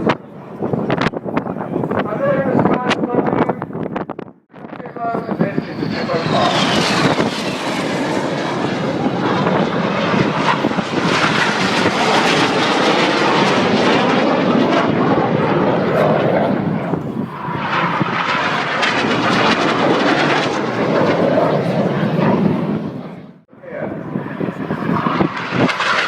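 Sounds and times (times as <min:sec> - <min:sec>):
jets flying overhead: 0:00.0 - 0:26.0.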